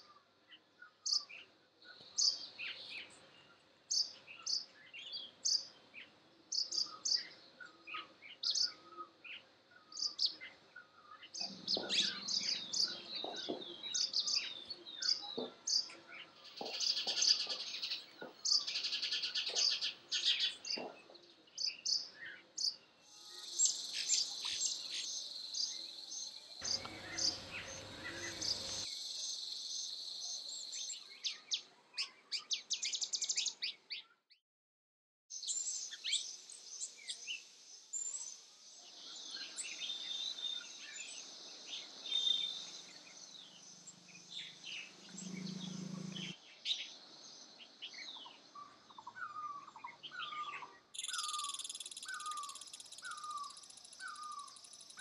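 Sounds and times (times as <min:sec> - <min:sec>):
small birds chirping: 0:00.0 - 0:34.3, 0:35.3 - 0:55.0.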